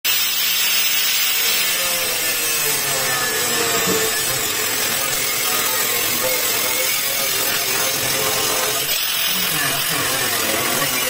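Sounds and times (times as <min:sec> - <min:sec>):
angle grinder cutting steel sheet: 0:00.1 - 0:11.0.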